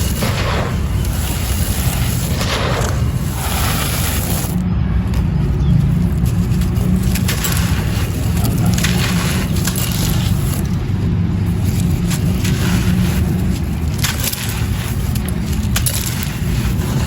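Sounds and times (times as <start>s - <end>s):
dry clay crumbling: 0.0s - 17.0s
steady low rumble: 0.0s - 17.0s.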